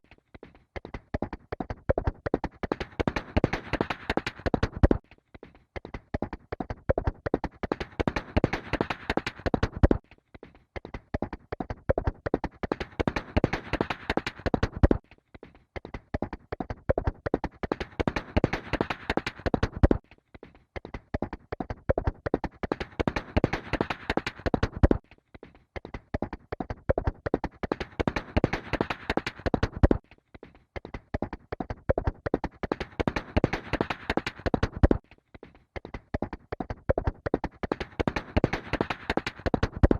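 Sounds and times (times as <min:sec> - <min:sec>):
horse galloping hoofbeats: 0:00.0 - 0:05.1, 0:05.8 - 0:10.1, 0:10.8 - 0:15.0, 0:15.8 - 0:20.0, 0:20.8 - 0:25.0, 0:25.8 - 0:30.0, 0:30.8 - 0:35.1, 0:35.8 - 0:39.9.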